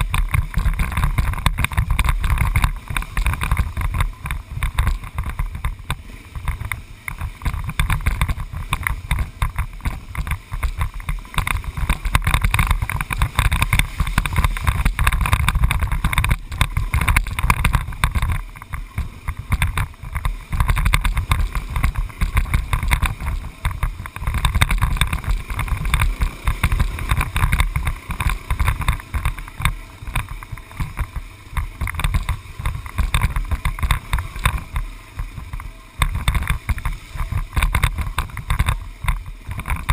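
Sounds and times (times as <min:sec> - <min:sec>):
vehicle rumbling on dirt road: 0:00.0 - 0:39.9
wind noise on microphone: 0:00.0 - 0:39.9.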